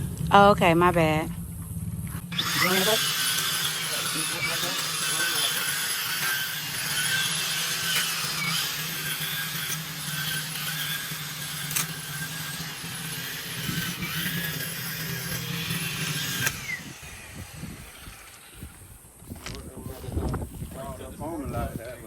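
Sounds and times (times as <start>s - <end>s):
lawn trimmer running: 2.1s - 22.0s.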